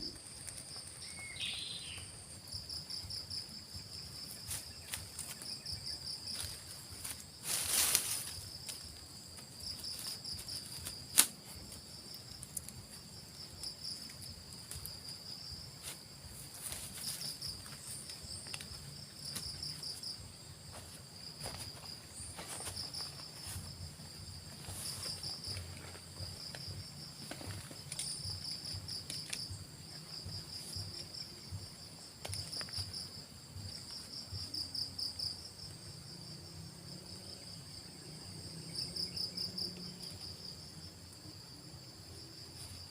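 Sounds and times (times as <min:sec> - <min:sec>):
insects chirping in trills: 0:00.0 - 0:42.9.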